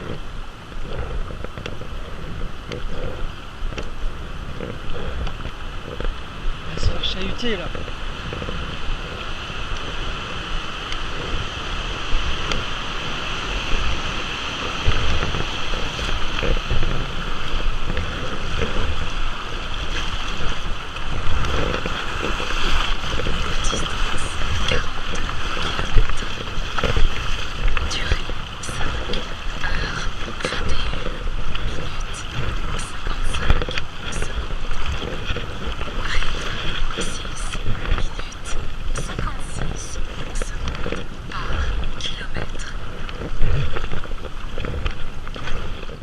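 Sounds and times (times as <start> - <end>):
water splashing around paddle: 0.0 - 46.0
wind rumbling on microphone: 0.0 - 46.0.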